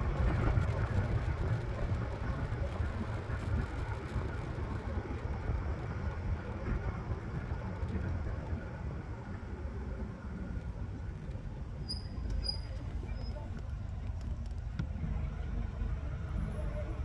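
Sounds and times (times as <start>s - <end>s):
electric scooter rumbling on asphalt: 0.0s - 17.0s.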